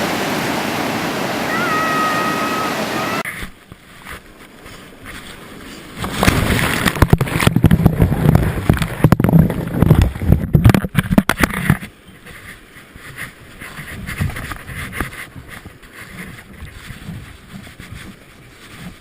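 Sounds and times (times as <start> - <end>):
surf water rushing and splashing: 0.0 - 19.0.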